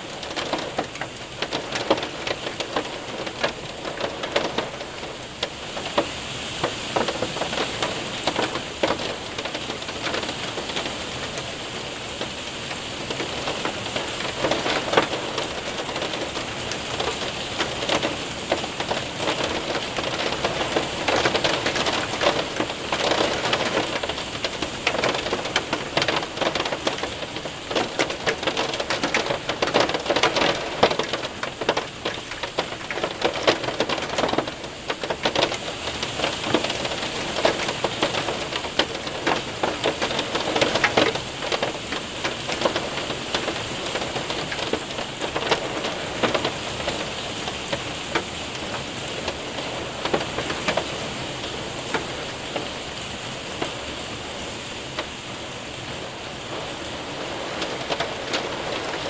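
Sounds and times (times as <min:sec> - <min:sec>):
hail hitting window and roof: 0:00.0 - 0:59.0
rain hiss: 0:00.0 - 0:59.0.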